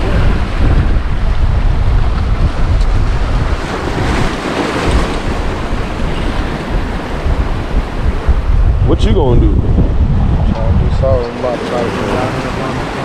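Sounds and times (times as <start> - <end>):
waves washing: 0.0 - 13.0
wind buffeting microphone: 0.0 - 13.0.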